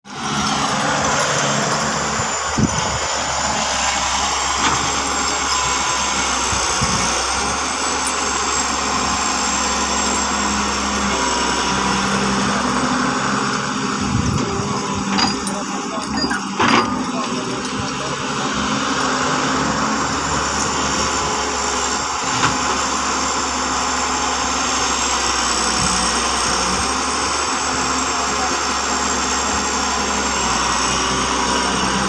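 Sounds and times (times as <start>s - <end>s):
excavator diesel engine running: 0.1s - 32.0s.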